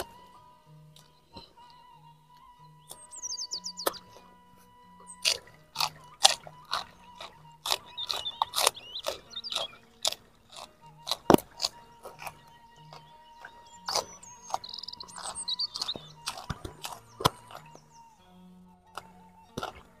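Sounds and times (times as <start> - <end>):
crunching and chewing leafy greens: 0.0 - 20.0.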